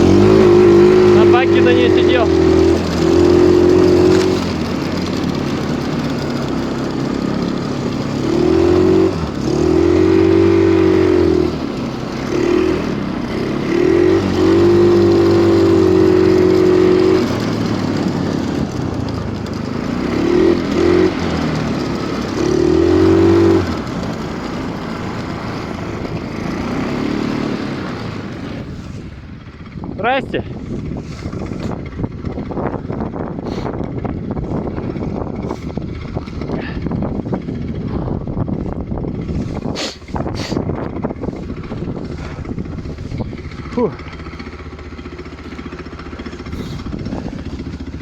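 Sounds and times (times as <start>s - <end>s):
snowmobile engine revving: 0.0s - 48.0s.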